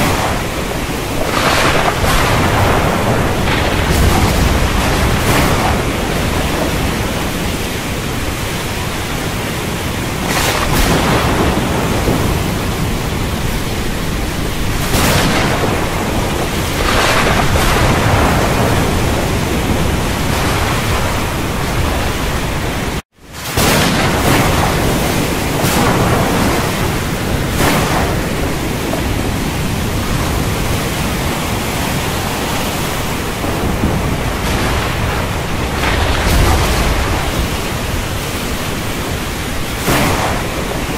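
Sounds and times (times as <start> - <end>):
storm noise rushing: 0.0 - 40.9
thunder rolling: 0.0 - 40.9.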